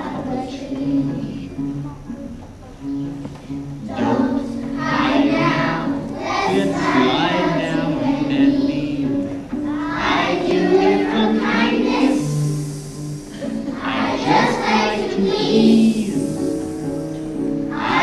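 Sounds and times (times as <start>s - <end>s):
children's choir singing: 0.0s - 2.2s, 2.8s - 18.0s
instrumental accompaniment: 0.0s - 18.0s.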